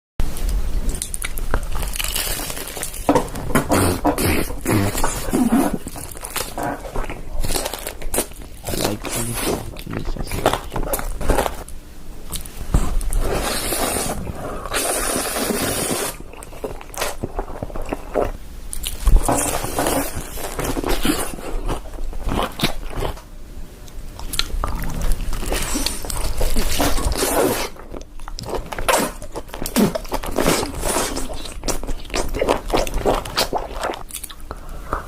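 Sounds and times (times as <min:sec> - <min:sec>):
crunchy chewing of food: 0:00.3 - 0:35.0.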